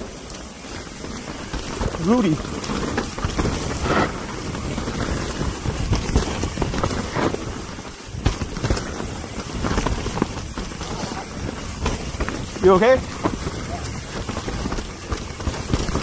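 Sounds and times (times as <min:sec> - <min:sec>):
bike knocking and rattling: 0:00.0 - 0:16.0
bike tyres over dirt and roots: 0:00.0 - 0:16.0
wind buffeting microphone: 0:00.0 - 0:16.0.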